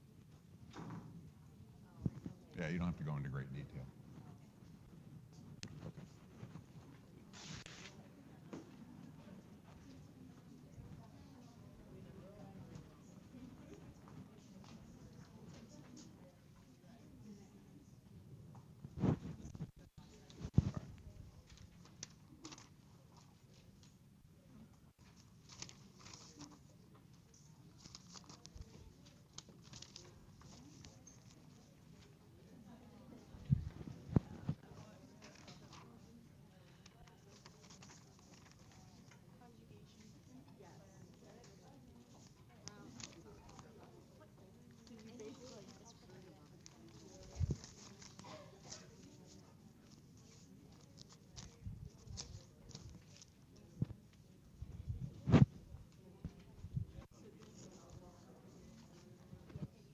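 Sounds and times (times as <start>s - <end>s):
faint clicks and rustles: 4.0s - 17.5s, 18.4s - 59.9s.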